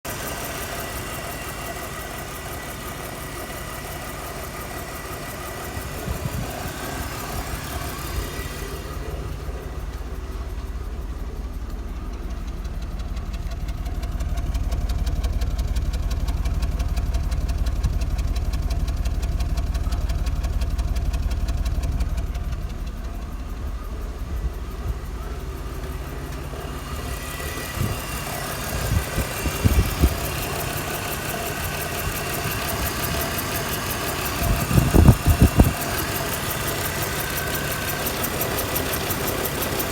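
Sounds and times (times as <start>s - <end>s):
car engine idling roughly: 0.0s - 39.9s.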